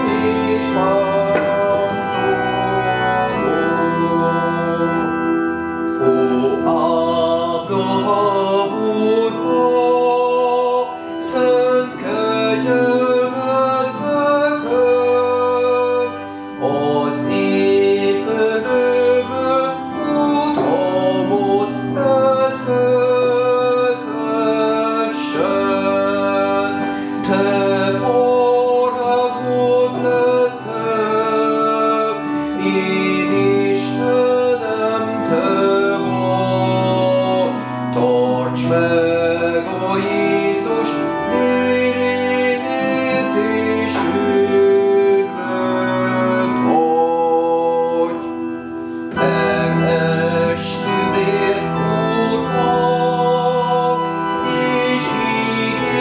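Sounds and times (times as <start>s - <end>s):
man singing: 0.0s - 56.0s
organ playing a hymn: 0.0s - 56.0s.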